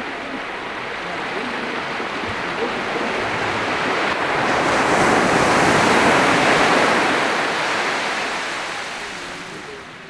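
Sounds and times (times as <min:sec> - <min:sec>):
ocean waves on a beach: 0:00.0 - 0:10.0.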